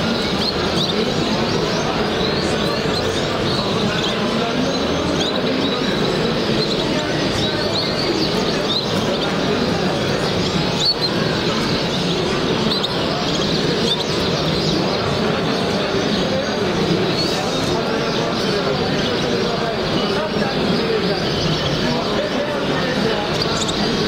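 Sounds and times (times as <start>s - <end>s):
canaries chirping: 0.0s - 24.0s
murmur of crowd voices: 0.0s - 24.0s.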